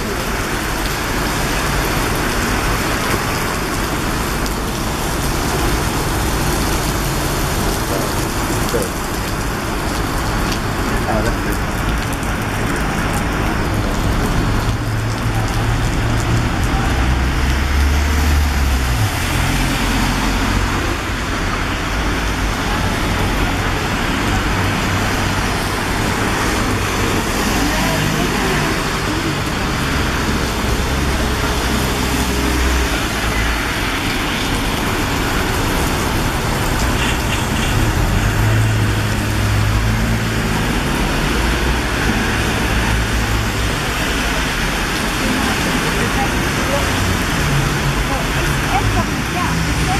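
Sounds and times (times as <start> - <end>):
heavy rain: 0.0 - 49.9
vehicle engines passing: 0.0 - 49.9.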